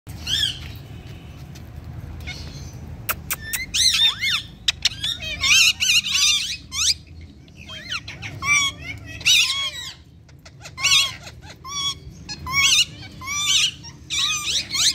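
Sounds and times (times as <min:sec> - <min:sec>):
parrots chirping: 0:02.2 - 0:14.9.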